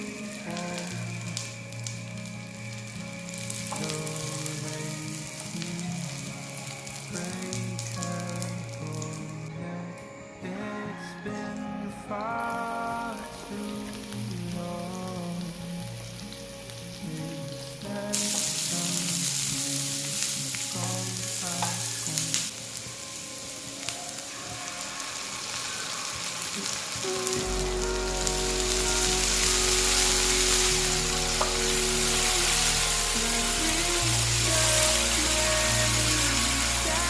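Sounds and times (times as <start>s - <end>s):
food sizzling in hot oil: 0.0s - 9.2s, 13.0s - 37.0s
background music: 0.0s - 37.0s.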